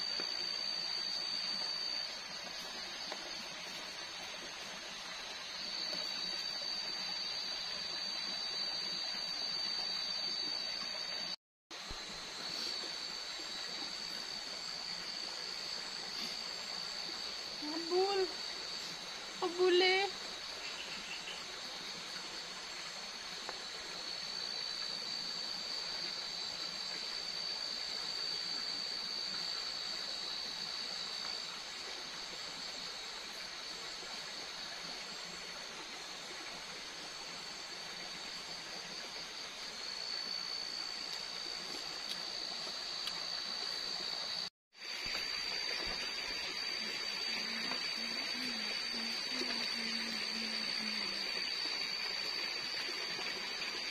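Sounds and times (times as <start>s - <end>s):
high-pitched insect drone: 0.0s - 35.2s, 36.9s - 53.9s
stream running: 0.0s - 53.9s.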